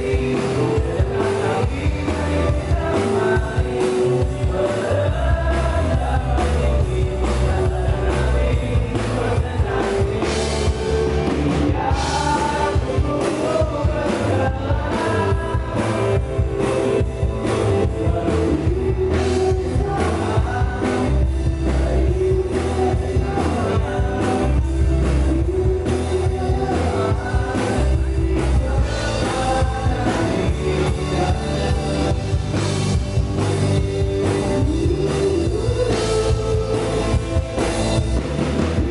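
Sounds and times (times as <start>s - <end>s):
lead vocal singing: 0.0s - 38.9s
rock band playing live: 0.0s - 38.9s.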